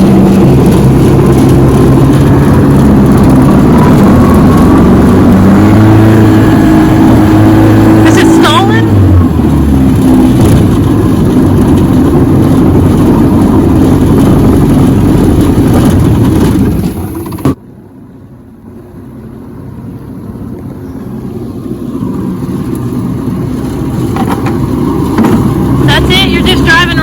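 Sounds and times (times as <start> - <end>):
boat outboard motor running: 0.0 - 27.0.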